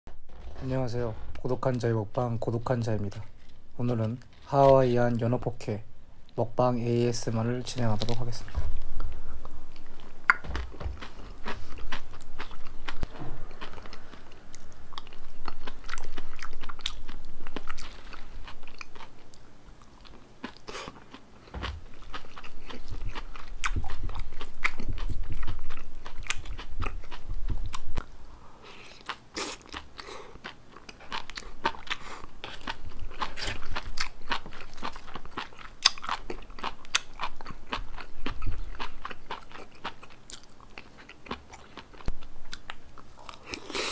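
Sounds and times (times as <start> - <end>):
close chewing and crunching: 7.8 - 43.9.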